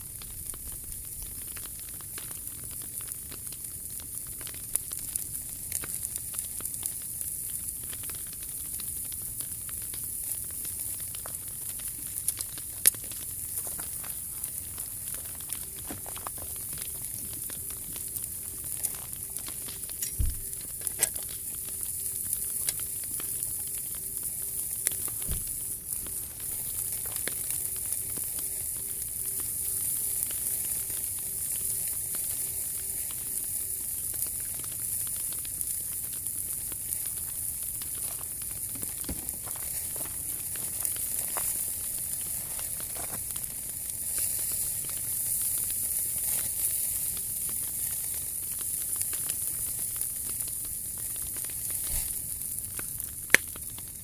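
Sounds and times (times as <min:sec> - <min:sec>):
wood fire crackling in a stove: 0:00.0 - 0:54.0.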